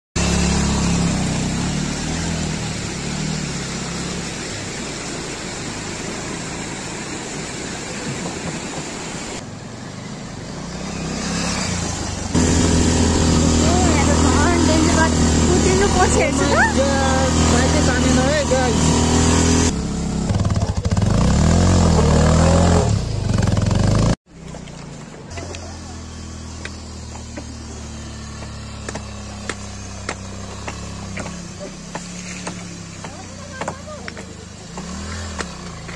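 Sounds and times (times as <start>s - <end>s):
motorcycle engine running: 0.2s - 8.2s, 9.8s - 35.9s.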